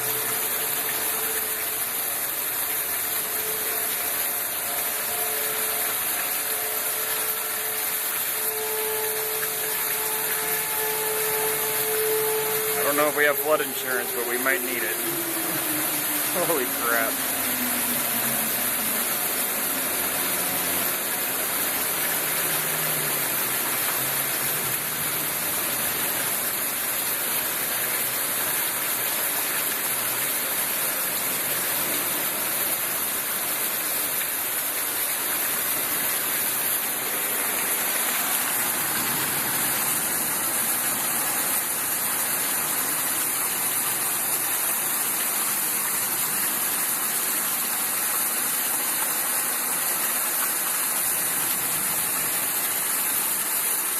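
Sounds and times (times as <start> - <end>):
floodwater flowing: 0.0 - 53.9
heavy rain: 0.0 - 53.9.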